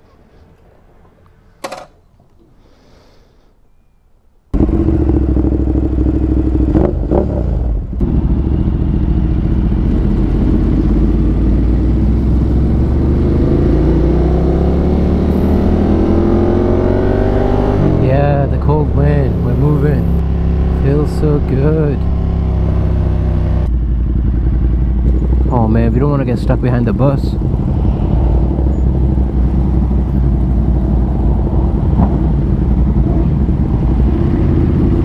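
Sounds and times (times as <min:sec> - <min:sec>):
motorcycle engine running: 0:04.6 - 0:35.0.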